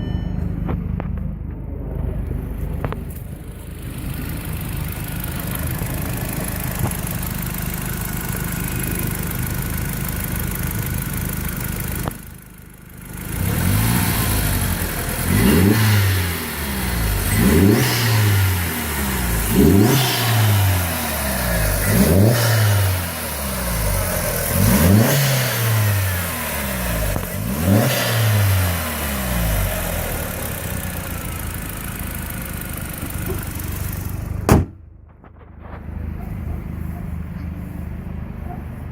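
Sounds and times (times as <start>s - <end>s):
car engine revving and idling: 0.6s - 34.6s.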